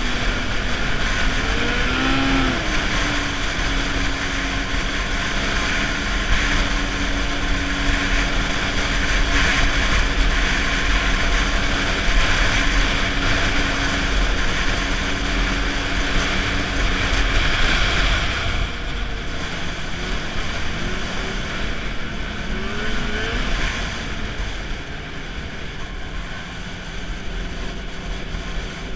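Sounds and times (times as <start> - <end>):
snowmobile engine drone: 0.0 - 28.9
track and snow noise: 0.0 - 28.9.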